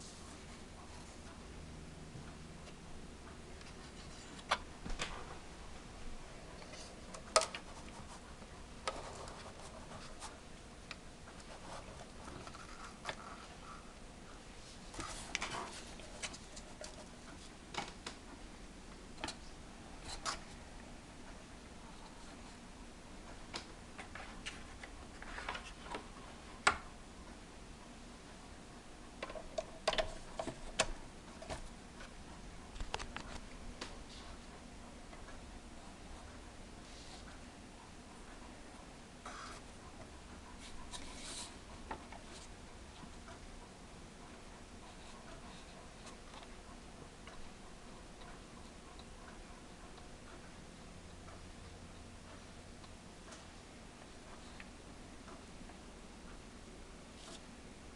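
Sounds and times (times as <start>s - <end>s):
faint background hiss: 0.0s - 57.9s.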